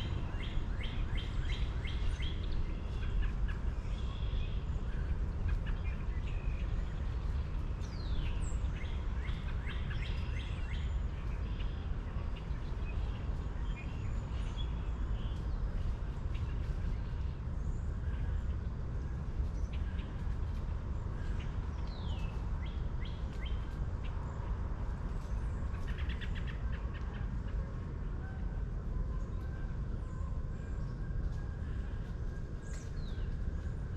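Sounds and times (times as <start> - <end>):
low steady rumble: 0.0 - 33.9.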